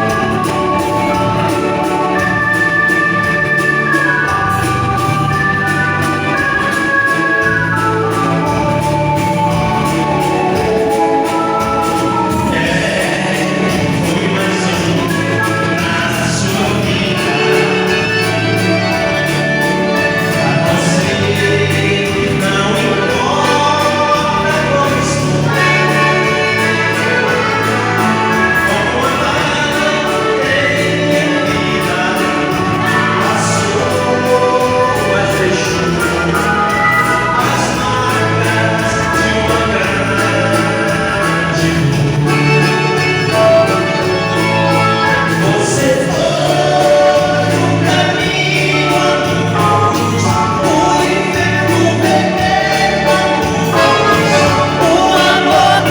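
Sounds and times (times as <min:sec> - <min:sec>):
dance band playing a waltz: 0:00.0 - 0:55.9.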